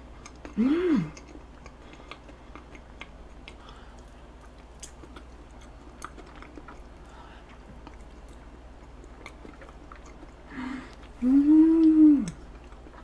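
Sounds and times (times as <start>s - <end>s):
chewing soft food: 0.0s - 13.0s
low steady hum: 0.0s - 13.0s.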